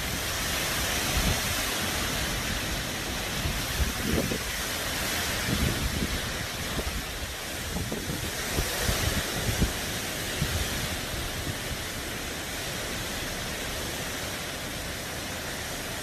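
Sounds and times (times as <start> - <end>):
heavy rain hissing: 0.0 - 16.0
wind rumbling on microphone: 0.0 - 16.0.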